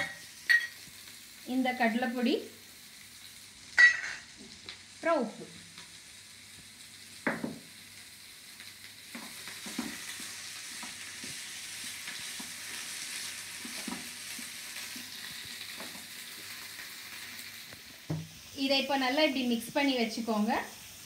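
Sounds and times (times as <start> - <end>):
potatoes sizzling in oil: 0.0 - 21.0.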